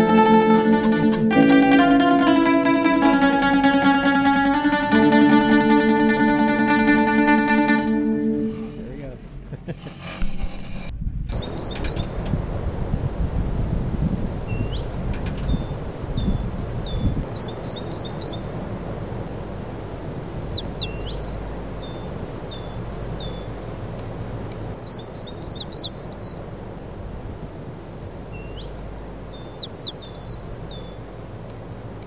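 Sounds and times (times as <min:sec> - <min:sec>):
songbird singing: 0:00.0 - 0:09.9, 0:11.3 - 0:12.6, 0:14.0 - 0:32.0.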